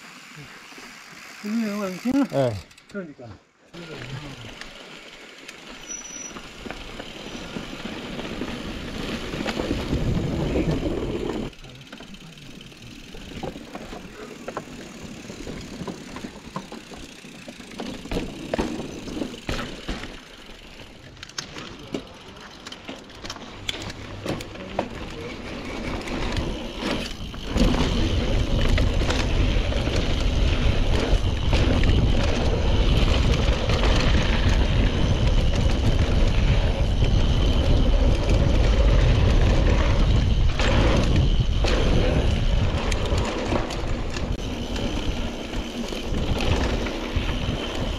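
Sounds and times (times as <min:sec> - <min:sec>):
bike clicks and rattles: 0:00.0 - 0:03.2, 0:03.8 - 0:47.9
low rumble of tyre and wind: 0:04.5 - 0:47.9.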